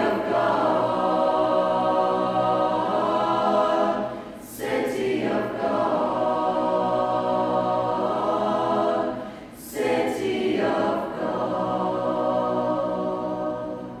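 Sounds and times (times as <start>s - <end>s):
choir singing a cappella: 0.0s - 14.0s.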